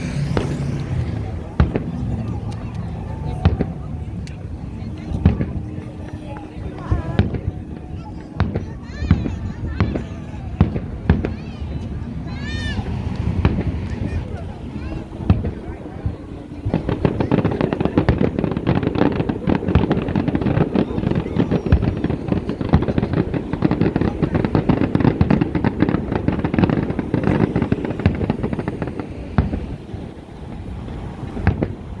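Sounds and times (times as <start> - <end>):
fireworks crackling and popping: 0.0 - 32.0.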